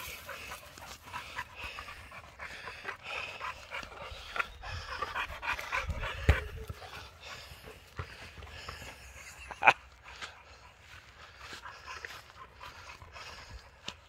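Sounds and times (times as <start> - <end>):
puppy panting: 0.0 - 9.4, 10.0 - 14.0.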